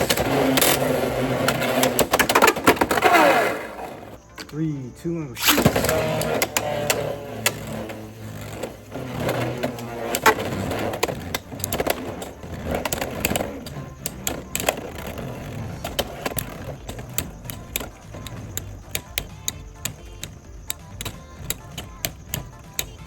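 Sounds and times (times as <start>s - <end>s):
spinning tops whirring and scraping: 0.0s - 4.2s, 5.4s - 23.0s.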